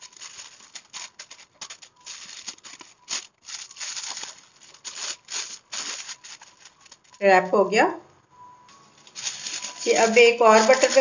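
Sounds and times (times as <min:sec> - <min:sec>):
paper crinkling and rustling: 0:00.0 - 0:07.3, 0:08.8 - 0:11.0.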